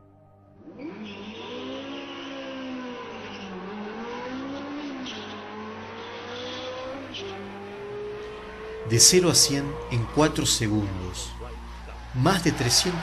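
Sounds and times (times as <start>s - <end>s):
race cars accelerating hard: 0.6s - 13.0s.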